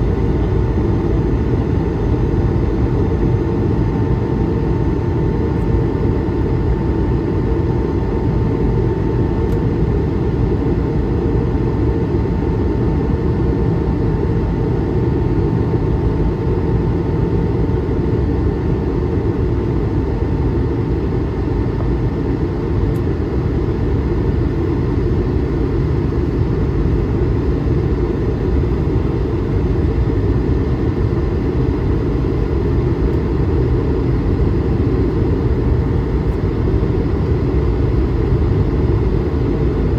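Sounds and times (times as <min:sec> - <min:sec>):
airplane cabin low rumble: 0:00.0 - 0:39.9.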